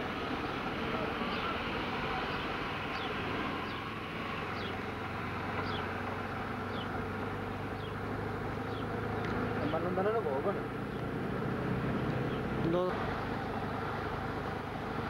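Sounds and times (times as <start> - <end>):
car engine humming: 0.0 - 15.0
recording noise: 0.0 - 15.0.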